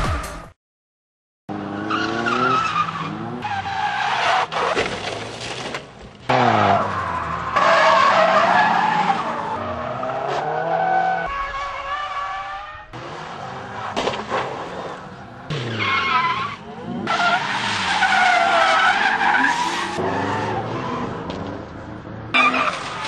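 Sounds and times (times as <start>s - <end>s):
car engines revving: 1.5s - 4.6s, 6.2s - 23.0s.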